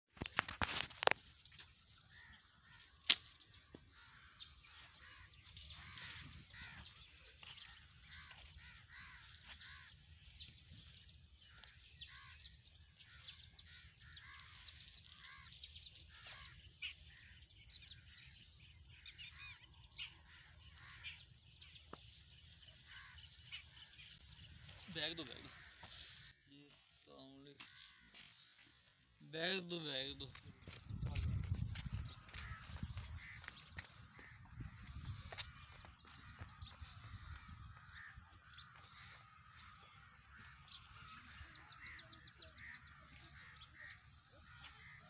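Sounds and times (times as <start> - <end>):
birds chirping: 0.2 - 45.0.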